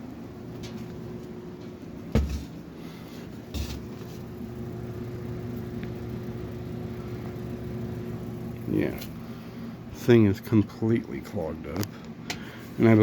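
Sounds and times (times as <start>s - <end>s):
box fan motor humming: 0.0s - 13.0s.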